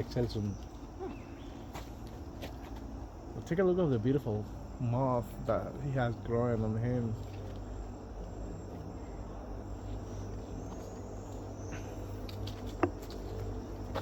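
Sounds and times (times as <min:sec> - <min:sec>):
insects calling: 0:00.0 - 0:14.0.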